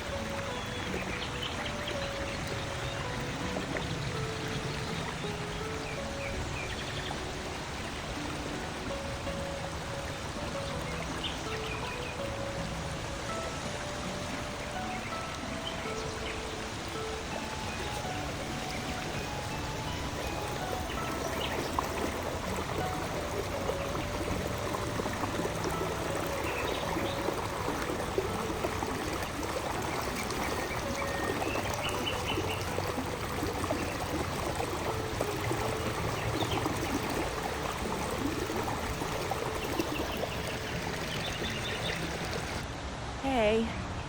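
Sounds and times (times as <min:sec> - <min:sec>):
stream babbling over rocks: 0:00.0 - 0:43.6.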